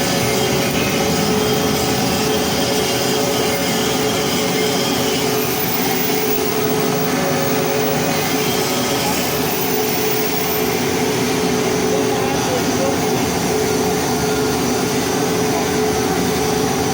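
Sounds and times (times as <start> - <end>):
machine hum with hiss: 0.0 - 16.9.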